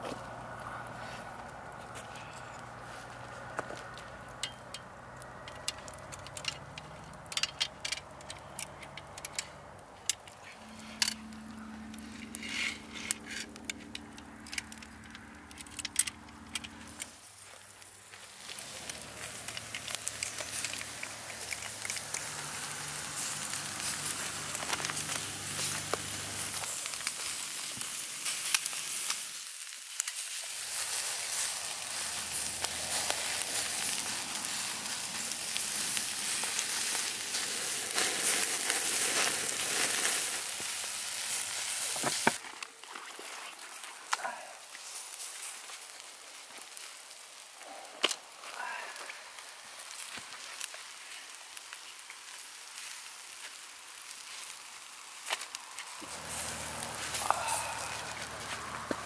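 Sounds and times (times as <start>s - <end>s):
fish sizzling on a grill: 0.0s - 59.0s.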